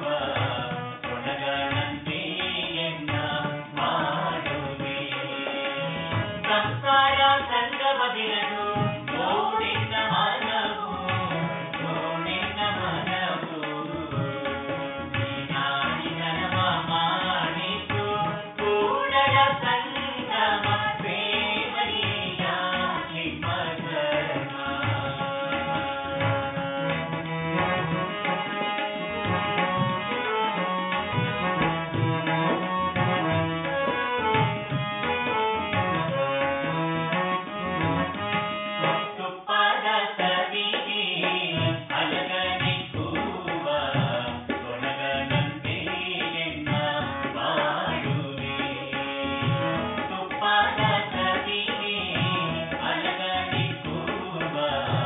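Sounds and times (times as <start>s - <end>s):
people singing together: 0.0s - 27.6s, 38.0s - 55.0s
harmonium tones: 0.0s - 55.0s
tabla rhythm: 0.0s - 55.0s.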